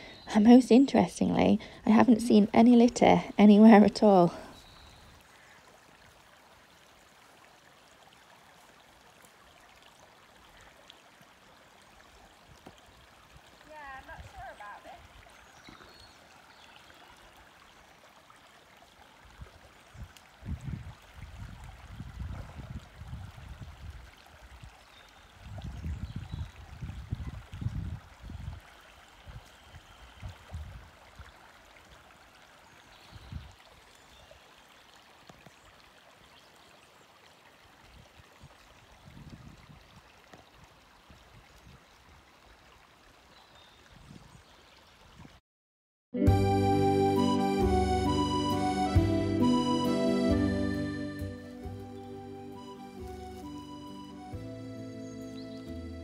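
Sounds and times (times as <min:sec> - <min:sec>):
running water stream: 0:00.0 - 0:45.4, 0:46.2 - 0:56.0.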